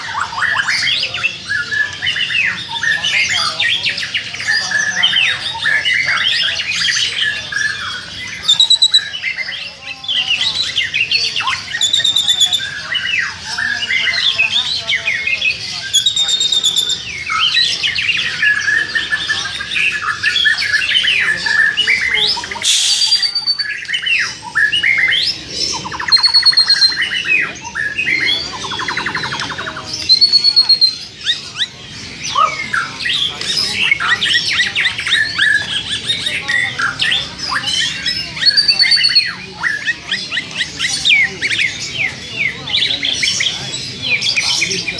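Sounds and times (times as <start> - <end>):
fast bird trills: 0.0 - 9.4, 10.1 - 44.9
songbirds chirping and whistling: 0.0 - 44.9.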